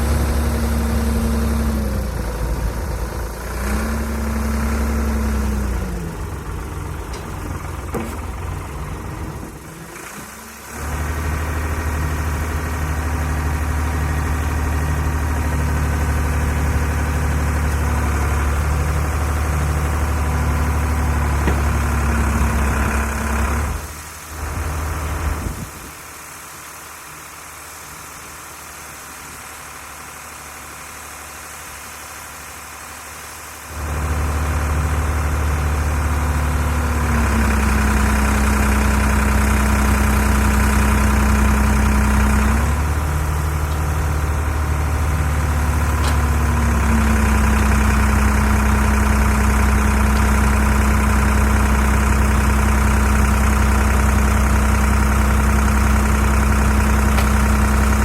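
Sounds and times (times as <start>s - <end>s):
diesel engine drone: 0.0s - 26.0s, 28.9s - 58.0s.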